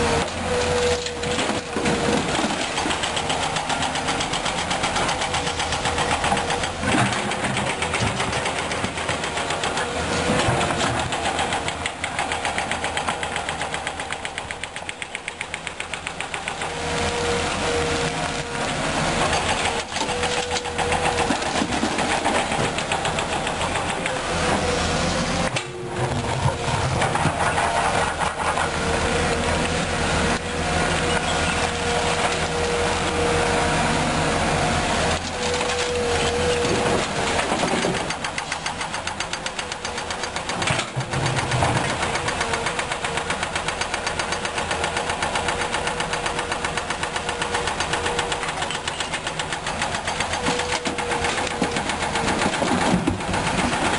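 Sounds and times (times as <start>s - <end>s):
excavator diesel engine working: 0.0s - 53.9s.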